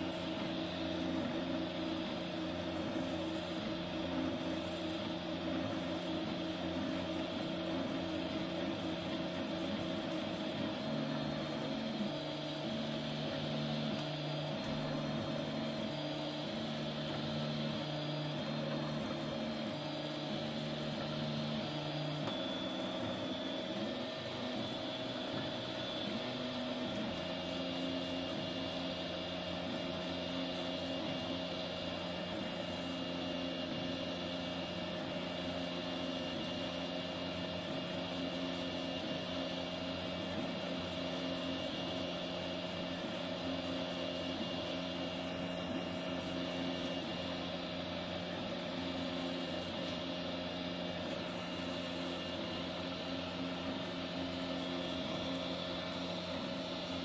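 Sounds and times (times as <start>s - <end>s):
steady hum: 0.0s - 57.0s
stepper motors whining: 0.0s - 57.0s.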